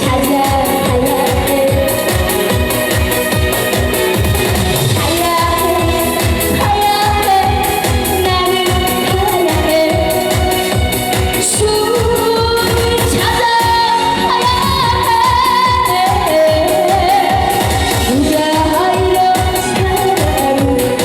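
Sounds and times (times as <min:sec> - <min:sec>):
person singing with vibrato: 0:00.0 - 0:02.8, 0:04.9 - 0:21.0
amplified backing track with beat: 0:00.0 - 0:21.0.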